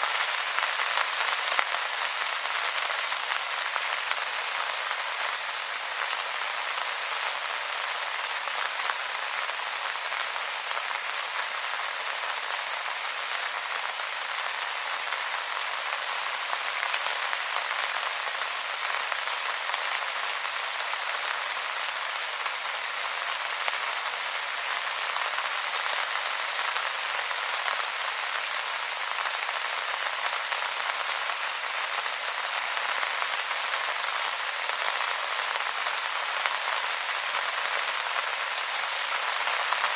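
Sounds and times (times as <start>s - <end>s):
rain on wet leaves: 0.0s - 39.9s.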